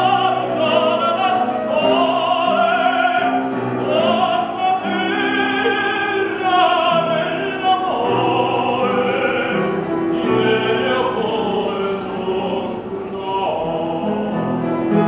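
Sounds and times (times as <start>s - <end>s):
man singing opera: 0.0s - 15.0s
upright piano accompaniment: 0.0s - 15.0s.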